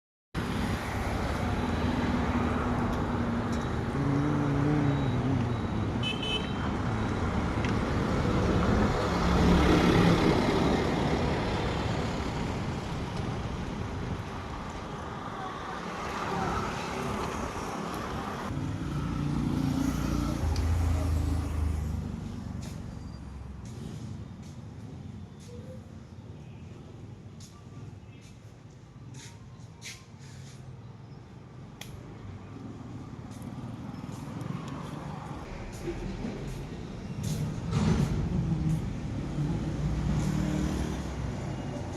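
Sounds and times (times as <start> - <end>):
motor vehicles passing: 0.4 - 25.2, 32.0 - 41.9.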